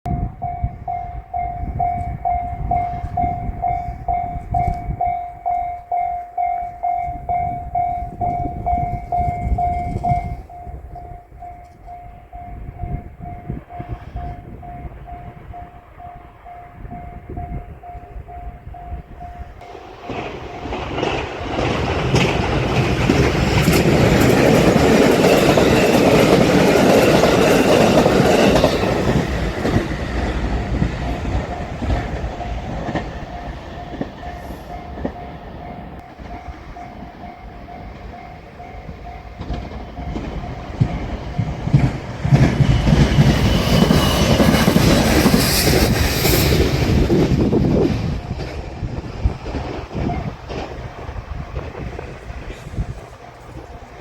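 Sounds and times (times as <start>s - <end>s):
level-crossing alarm ringing: 0.1s - 49.0s, 52.8s - 54.0s
train wheels on rails: 0.1s - 54.0s.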